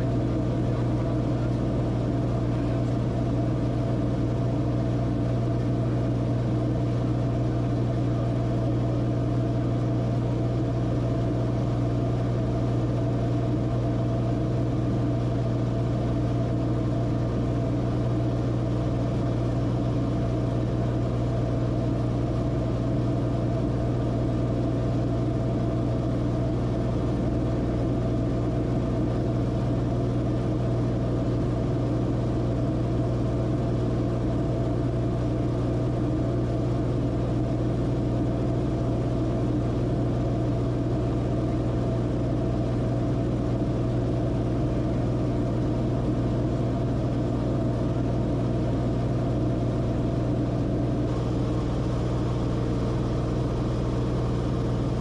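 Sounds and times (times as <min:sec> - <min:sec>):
aircraft engine droning in cockpit: 0:00.0 - 0:55.0.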